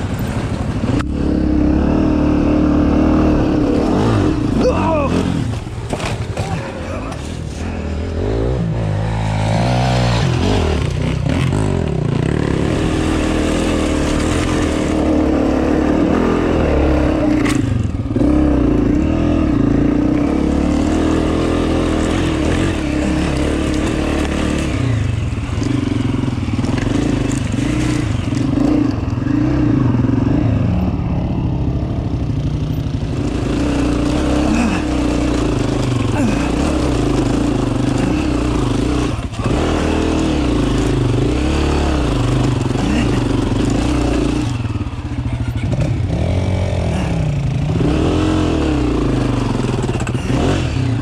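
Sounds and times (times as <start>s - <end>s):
dirt bike engine revving: 0.0s - 31.2s, 32.0s - 51.0s.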